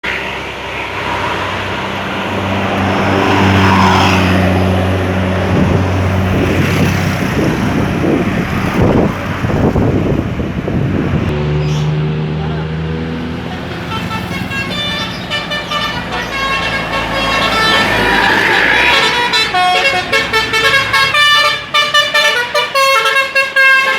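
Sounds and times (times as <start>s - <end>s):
diesel bus engine drone: 0.1s - 23.9s.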